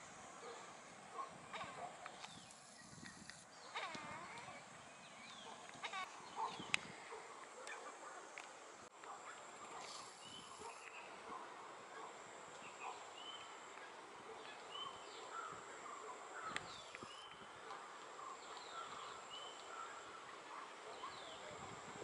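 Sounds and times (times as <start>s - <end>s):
steady background hiss: 0.0s - 22.0s
small birds chirping: 0.4s - 8.5s, 9.2s - 21.6s.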